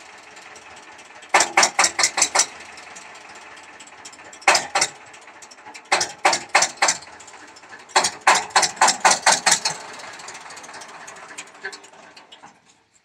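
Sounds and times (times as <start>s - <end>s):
diesel engine chuffing: 0.0s - 13.0s.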